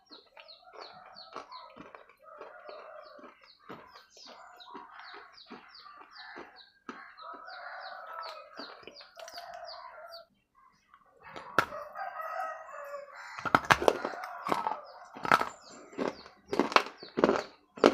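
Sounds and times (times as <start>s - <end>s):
birds chirping rapidly: 0.0s - 17.9s
mouth and chewing noises: 0.0s - 17.9s.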